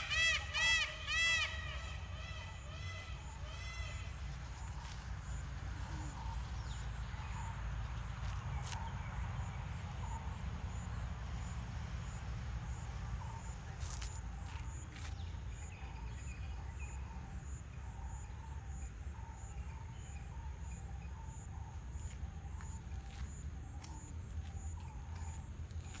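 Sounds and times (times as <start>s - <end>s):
crickets calling: 0.0s - 26.0s.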